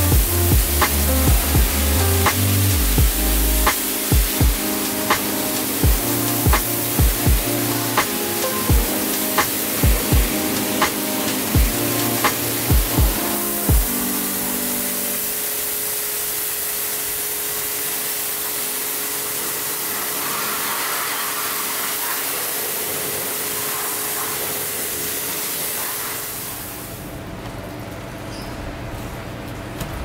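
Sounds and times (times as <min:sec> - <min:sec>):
pressure washer spraying water: 0:00.0 - 0:27.0.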